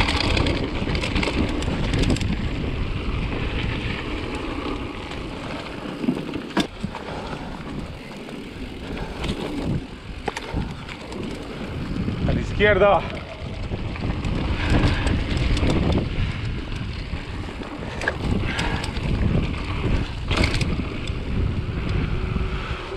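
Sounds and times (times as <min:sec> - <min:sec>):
tyres rolling on dirt: 0:00.0 - 0:22.5
bike rattling over bumps: 0:00.0 - 0:22.9
wind buffeting microphone: 0:00.0 - 0:22.9.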